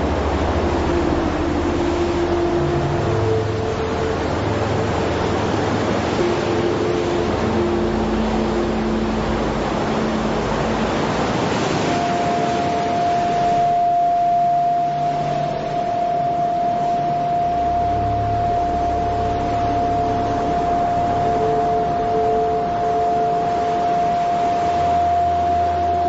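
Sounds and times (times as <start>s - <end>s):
ambient drone: 0.0s - 26.0s
rushing noise: 0.0s - 26.0s.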